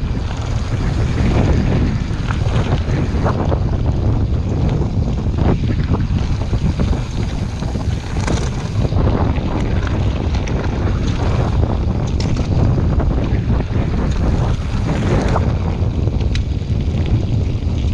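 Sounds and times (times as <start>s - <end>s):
bike rattling: 0.0s - 17.9s
wind on camera microphone: 0.0s - 17.9s.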